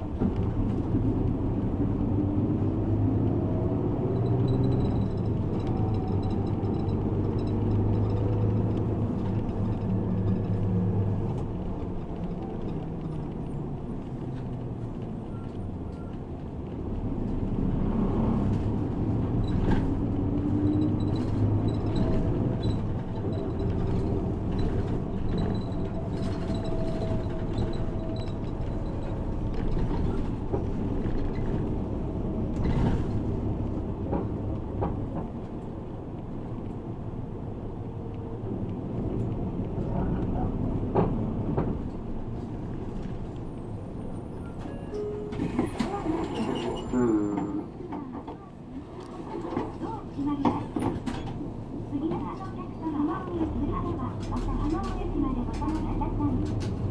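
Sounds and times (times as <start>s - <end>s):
bus engine and road noise: 0.0s - 56.9s.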